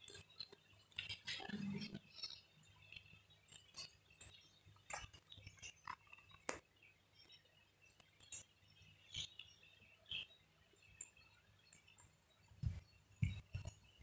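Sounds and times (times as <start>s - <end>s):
small clicks and taps: 0.0s - 10.3s, 10.9s - 14.0s.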